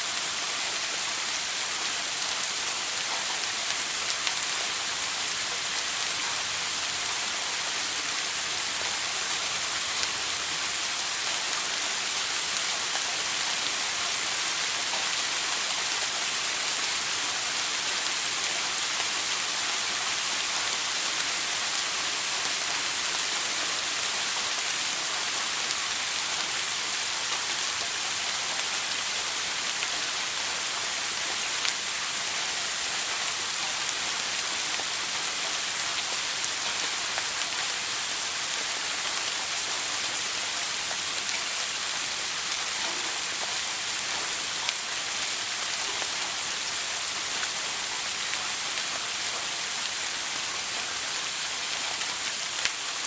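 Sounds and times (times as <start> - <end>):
shower spray on hard surface: 0.0 - 53.0
faint drip ticks: 0.2 - 53.0.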